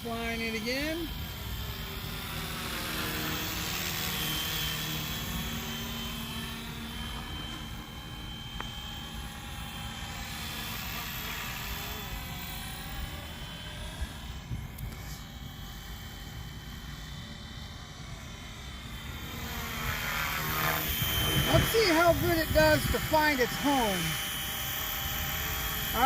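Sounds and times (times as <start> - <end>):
rc helicopter rotor whirr: 0.0 - 26.0.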